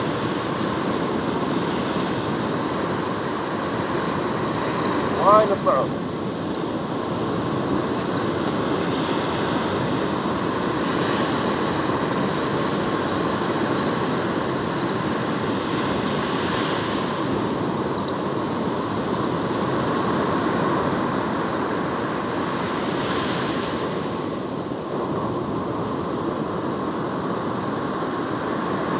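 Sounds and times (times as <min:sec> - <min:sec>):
waves breaking on beach: 0:00.0 - 0:28.9.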